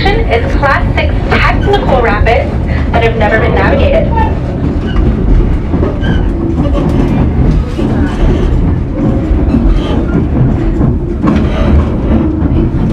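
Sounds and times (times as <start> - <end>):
train rumbling on rails: 0.0 - 12.9
train wheel clatter: 0.0 - 12.9.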